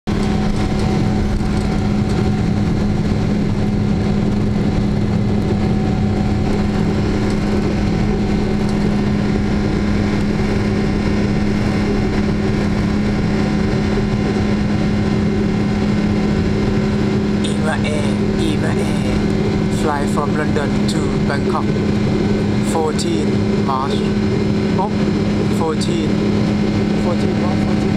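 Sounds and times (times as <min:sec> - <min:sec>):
jet engines droning in cabin: 0:00.1 - 0:27.9.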